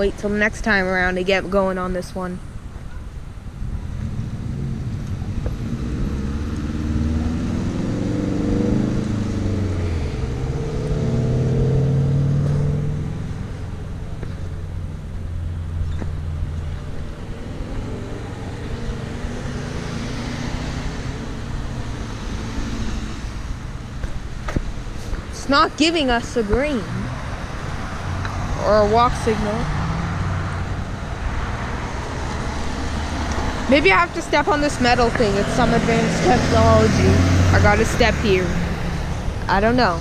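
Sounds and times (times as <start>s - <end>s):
cars pulling away: 0.0s - 40.0s
car passing with tyre noise: 2.4s - 40.0s.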